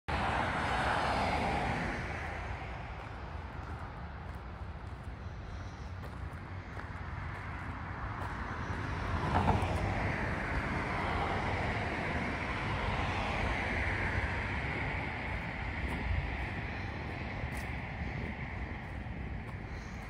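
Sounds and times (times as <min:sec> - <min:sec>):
car passing: 0:00.1 - 0:20.0.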